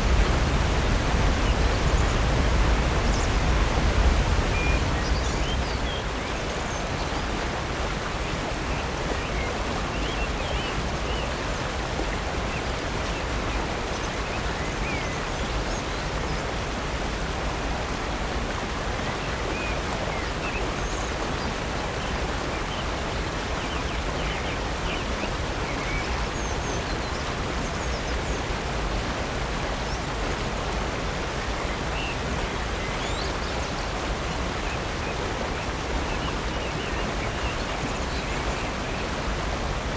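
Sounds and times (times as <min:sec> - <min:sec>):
rushing waterfall: 0:00.0 - 0:39.9.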